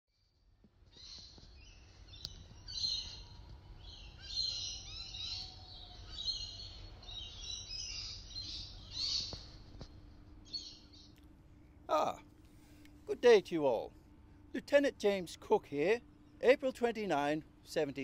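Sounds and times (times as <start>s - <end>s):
faint low rumble: 0.2s - 17.8s
birds chirping: 0.2s - 18.0s.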